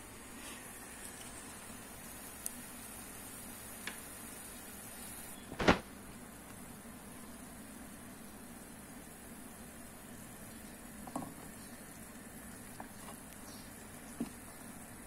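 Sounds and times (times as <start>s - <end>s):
water boiling in saucepan: 0.0s - 15.0s.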